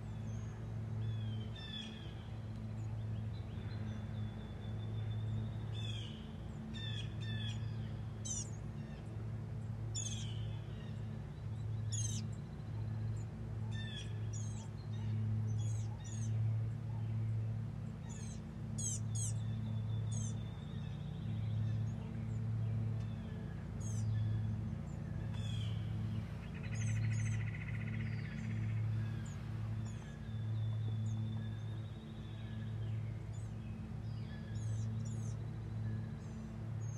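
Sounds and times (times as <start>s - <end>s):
low pulsing hum: 0.0s - 36.9s
songbirds chirping: 0.0s - 36.9s.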